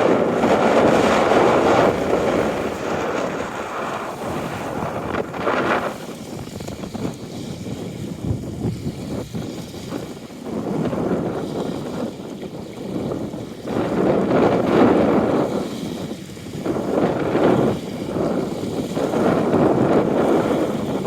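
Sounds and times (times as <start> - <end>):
water lapping at shore: 0.0 - 21.0
wind on microphone: 0.0 - 21.0.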